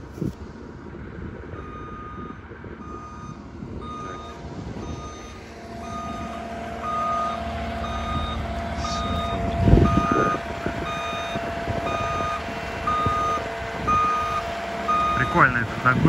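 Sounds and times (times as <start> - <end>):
loader engine running: 0.0 - 16.0
backup alarm beeping: 1.6 - 16.0.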